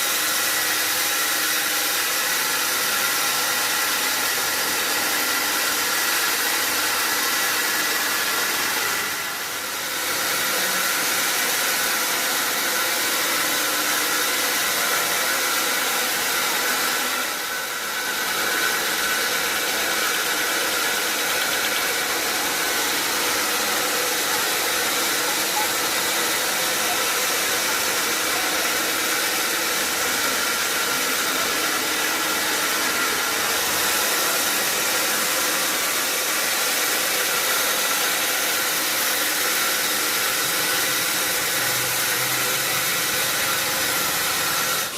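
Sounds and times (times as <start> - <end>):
sawmill machinery hissing: 0.0 - 44.9.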